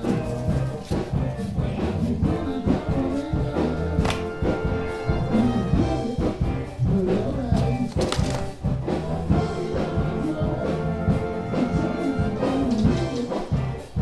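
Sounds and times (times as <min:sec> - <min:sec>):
muffled rock band playing: 0:00.0 - 0:14.0.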